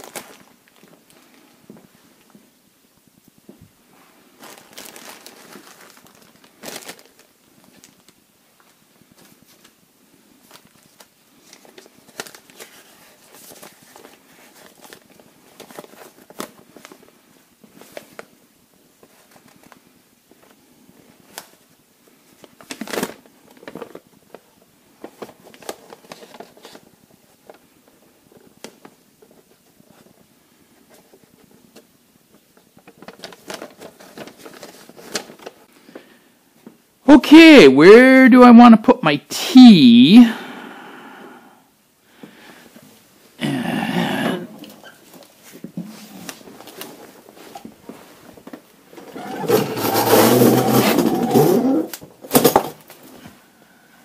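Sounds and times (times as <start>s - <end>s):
crinkling and rustling: 0.0s - 36.8s, 44.5s - 53.5s.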